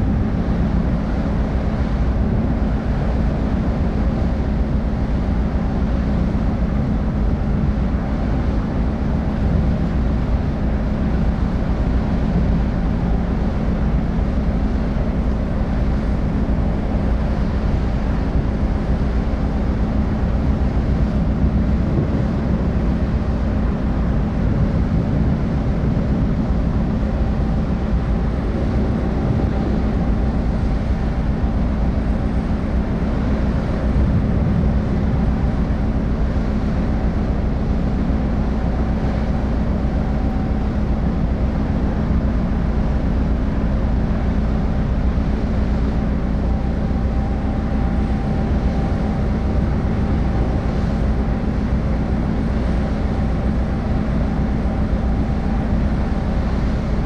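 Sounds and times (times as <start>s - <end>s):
ship engines rumbling: 0.0s - 57.0s.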